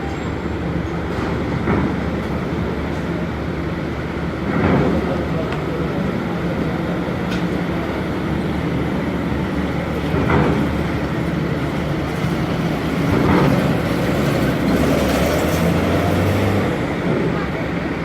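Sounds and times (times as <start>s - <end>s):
heavy vehicle engine rumble: 0.0s - 18.0s.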